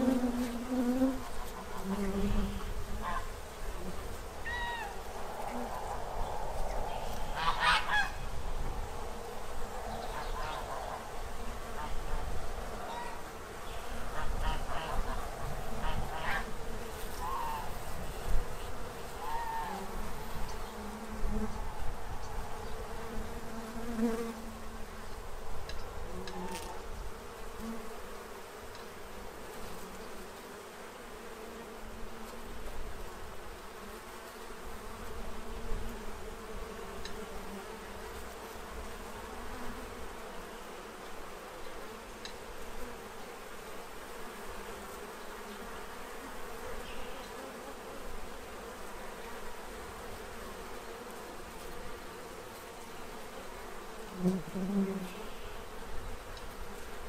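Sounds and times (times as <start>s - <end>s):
bee buzzing past close: 0.0s - 57.0s
bees buzzing: 0.0s - 57.0s.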